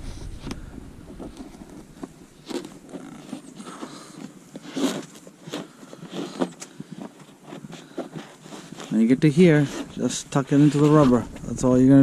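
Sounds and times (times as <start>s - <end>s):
hands rustling and clicking trim: 0.4s - 11.5s.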